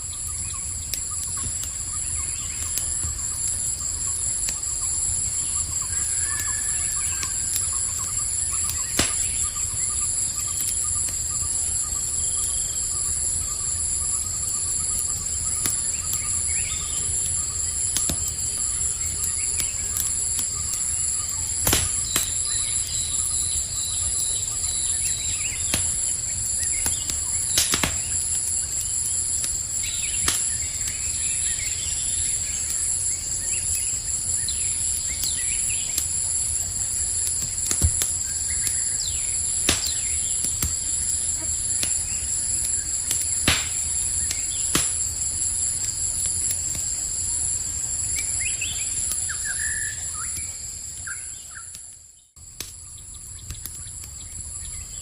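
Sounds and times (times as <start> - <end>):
campfire crackling and popping: 0.0 - 55.0
crickets trilling: 0.0 - 55.0.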